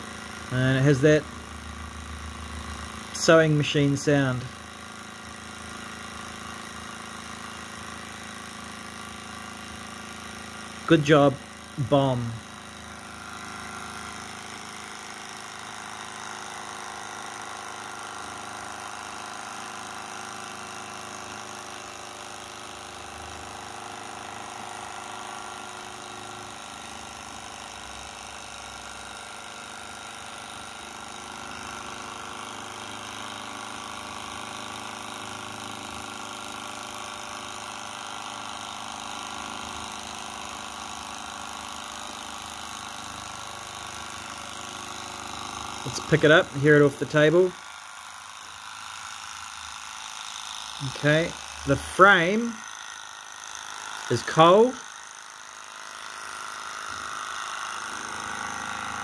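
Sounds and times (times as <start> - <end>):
model engine running busily: 0.0 - 59.0.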